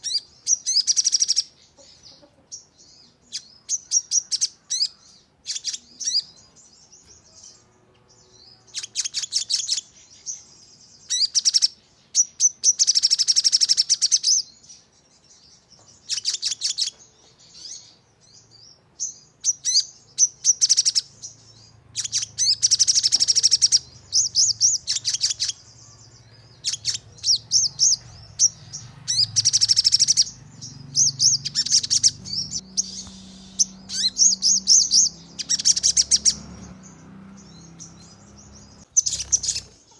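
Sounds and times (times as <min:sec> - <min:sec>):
songbird singing rapid notes: 0:00.0 - 0:39.9.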